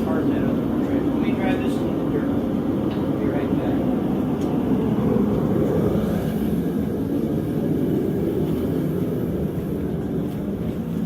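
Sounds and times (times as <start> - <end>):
forge roaring: 0.0 - 11.0.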